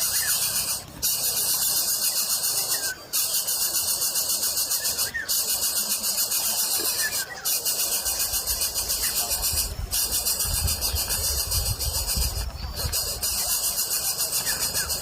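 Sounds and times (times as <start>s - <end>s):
high-pitched pulsing buzzing hiss: 0.0s - 15.0s.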